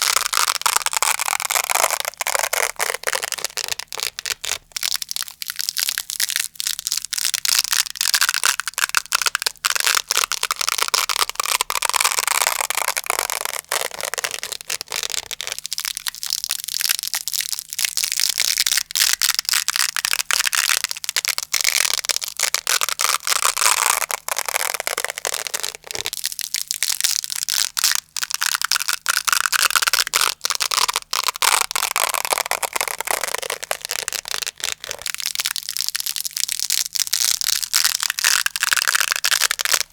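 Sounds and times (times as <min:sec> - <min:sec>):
velcro being ripped apart: 0:00.0 - 0:39.9.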